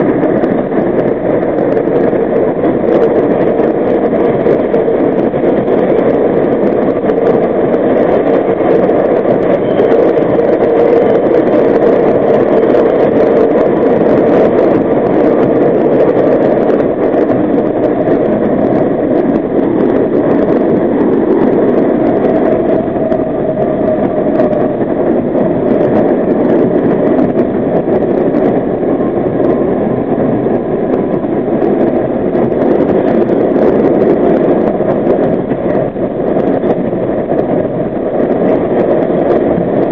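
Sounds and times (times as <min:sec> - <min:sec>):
subway wheels rumbling on rails: 0:00.0 - 0:39.9.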